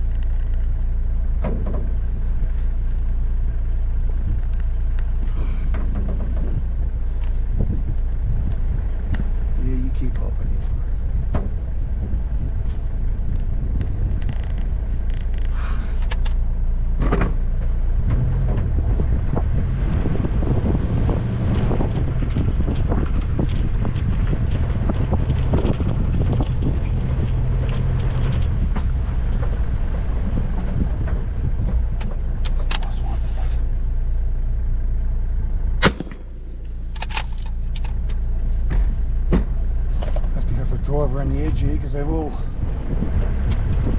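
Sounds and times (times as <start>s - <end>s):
body rattles and knocks: 0.0s - 9.4s, 10.0s - 33.4s, 36.1s - 41.9s
vehicle engine running: 0.0s - 43.9s.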